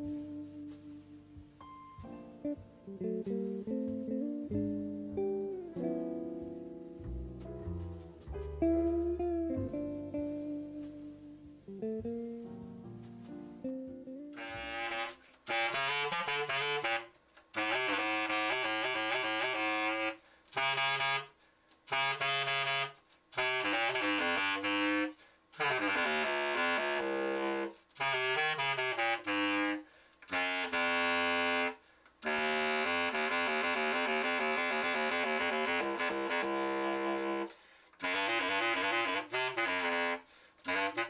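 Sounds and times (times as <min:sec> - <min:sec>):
bass clarinet playing: 0:00.0 - 0:41.0.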